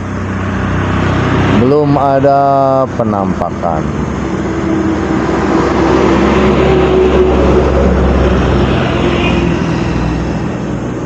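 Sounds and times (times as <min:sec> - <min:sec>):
vehicle passing with engine hum: 0:00.0 - 0:11.0.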